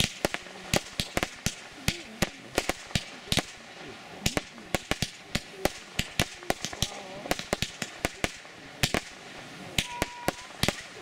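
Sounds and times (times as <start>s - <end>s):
crackling fireworks stars: 0.0s - 11.0s
fireworks bangs and pops: 0.0s - 11.0s.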